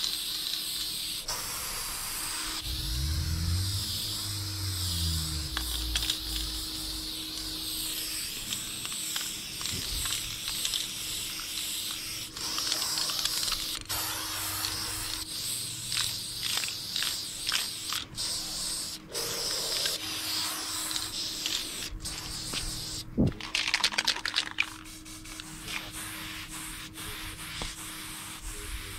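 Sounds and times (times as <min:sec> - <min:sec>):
spray paint can hissing: 0:00.0 - 0:28.9.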